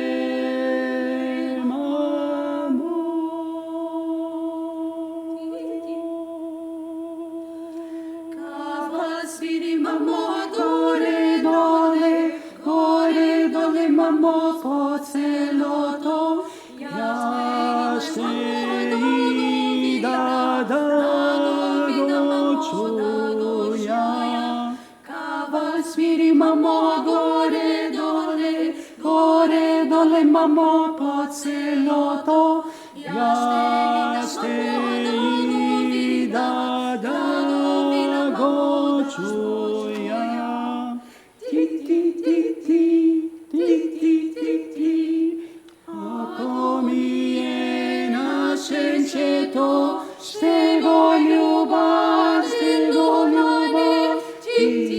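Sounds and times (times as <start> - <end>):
a cappella ensemble singing: 0.0 - 54.9.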